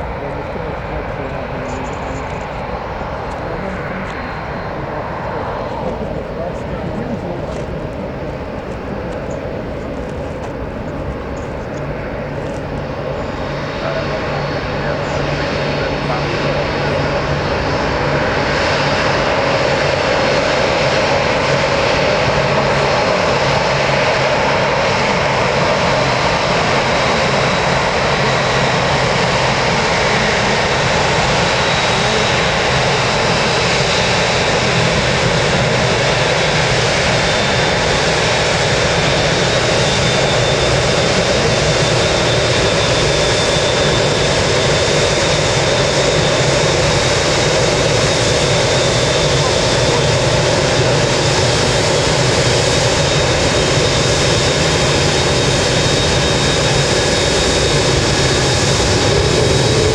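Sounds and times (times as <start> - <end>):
high engine whine: 0.0 - 59.9
jet engines running: 0.0 - 59.9.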